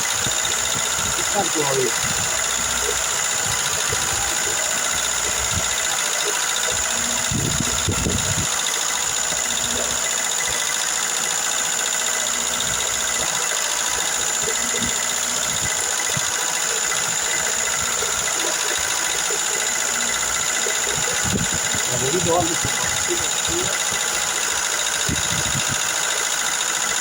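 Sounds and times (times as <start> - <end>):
car engine idling: 0.0 - 27.0
hydraulic lifters ticking: 0.0 - 27.0.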